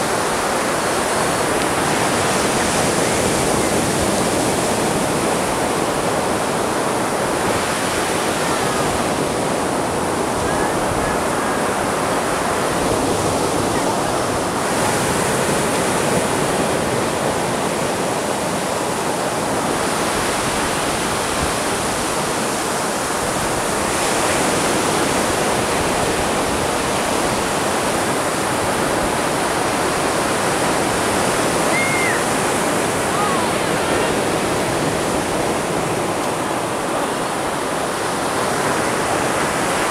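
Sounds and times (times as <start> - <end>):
waves crashing on beach: 0.0 - 39.9.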